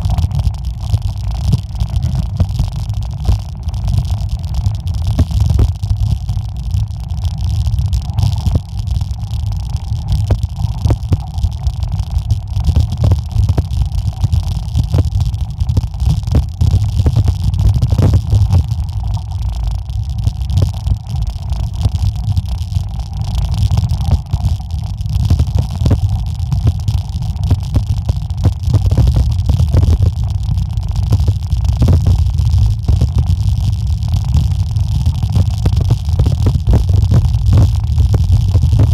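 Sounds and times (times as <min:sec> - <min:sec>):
bike rumble on dirt trail: 0:00.0 - 0:19.5, 0:20.2 - 0:38.9.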